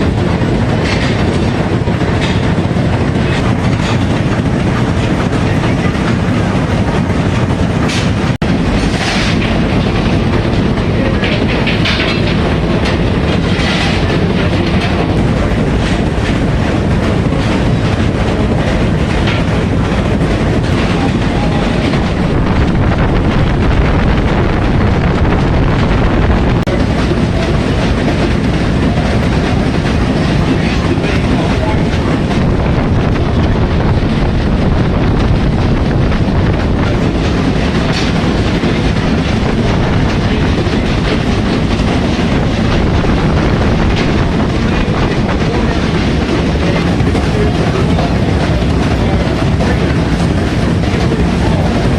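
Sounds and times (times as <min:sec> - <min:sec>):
machinery rumble: 0:00.0 - 0:51.9.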